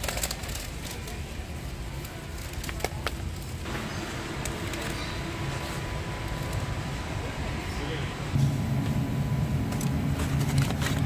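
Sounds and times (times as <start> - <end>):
steady low hum: 0.6 - 11.0.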